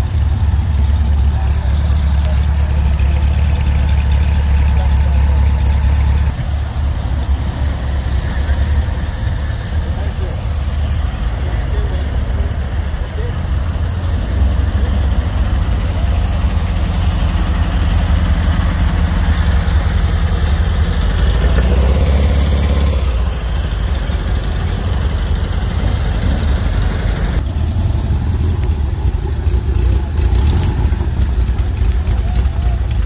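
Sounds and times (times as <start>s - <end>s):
car engine driving slowly past: 0.0s - 33.0s.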